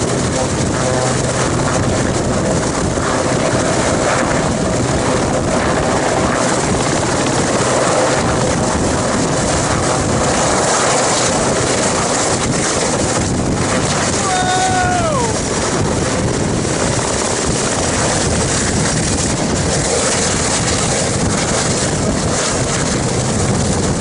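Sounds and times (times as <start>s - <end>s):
helicopter hovering: 0.0s - 24.0s.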